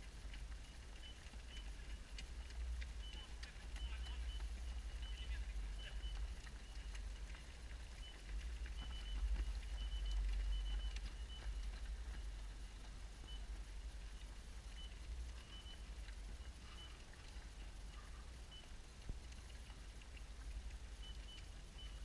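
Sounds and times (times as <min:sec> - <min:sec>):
faint ticks: 0:00.0 - 0:22.0.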